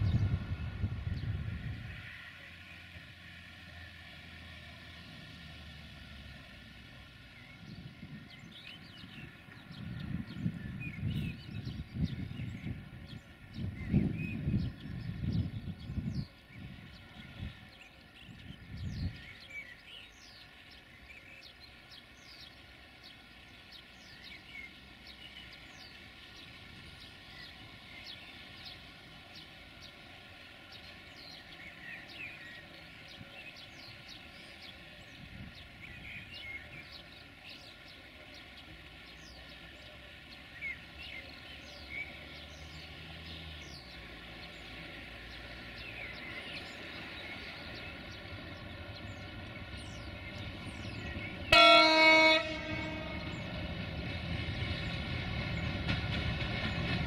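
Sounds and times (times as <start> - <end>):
diesel locomotive engine: 0.0 - 57.0
birds chirping and singing: 7.3 - 57.0.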